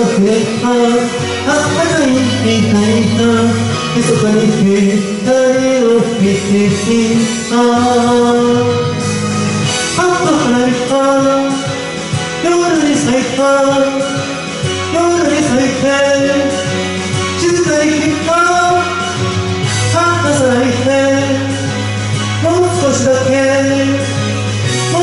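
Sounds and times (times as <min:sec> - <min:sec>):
karaoke backing track: 0:00.0 - 0:25.0
man singing into a microphone: 0:00.0 - 0:25.0.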